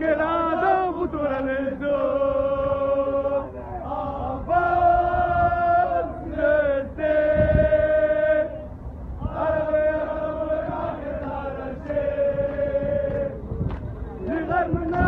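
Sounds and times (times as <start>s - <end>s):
crowd chanting: 0.0s - 15.0s.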